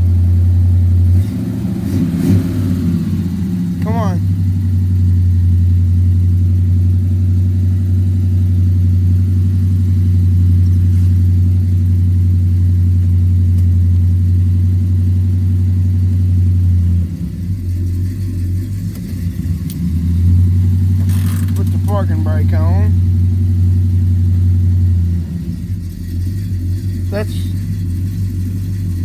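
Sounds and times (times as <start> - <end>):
pickup engine running: 0.0 - 29.0.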